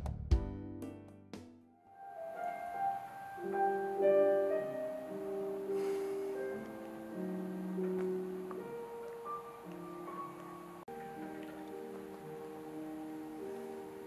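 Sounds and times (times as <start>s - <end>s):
slow keyboard chords with melody: 0.4s - 14.0s.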